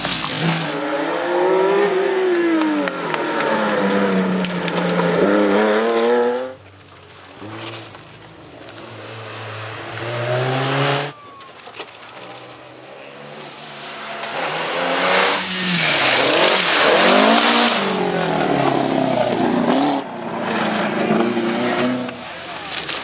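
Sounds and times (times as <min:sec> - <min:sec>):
rally car engines at full throttle: 0:00.0 - 0:23.0.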